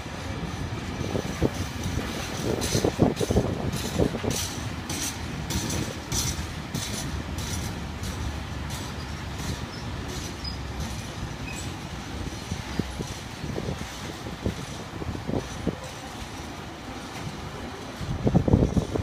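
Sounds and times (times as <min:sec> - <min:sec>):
rhythmic wheel clatter: 0:00.0 - 0:19.0
train wagons rumbling past: 0:00.0 - 0:19.0.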